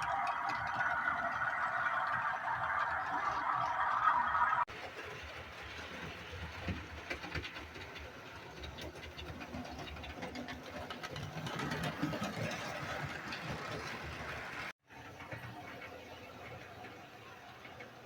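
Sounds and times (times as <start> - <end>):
wheels clicking over rail joints: 0.0 - 4.0, 4.6 - 18.0.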